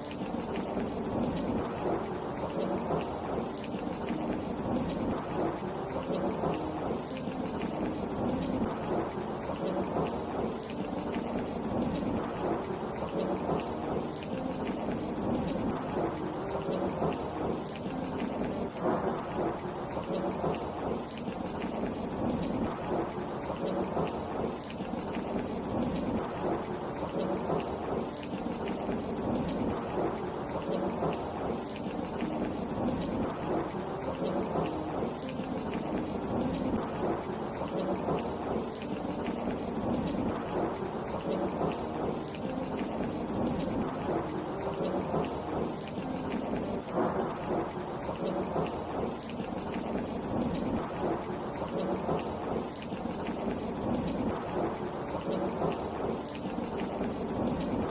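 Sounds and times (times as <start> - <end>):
heavy rain patter: 0.0 - 57.9.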